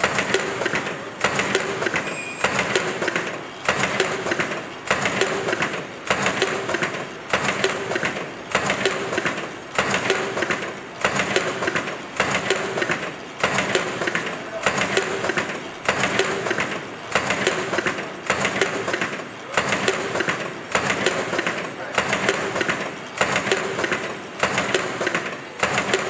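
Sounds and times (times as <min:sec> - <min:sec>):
machine clattering and clicking: 0:00.0 - 0:26.0.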